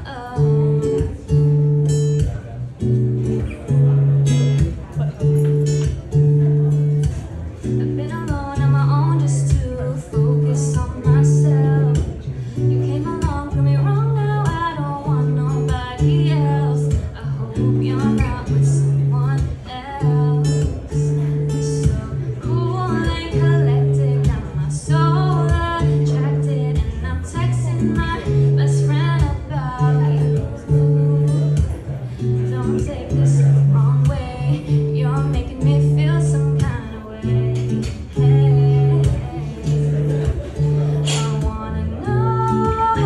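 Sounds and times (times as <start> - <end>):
woman singing: 0.0 - 1.8, 7.7 - 43.0
acoustic guitar strumming: 0.0 - 43.0.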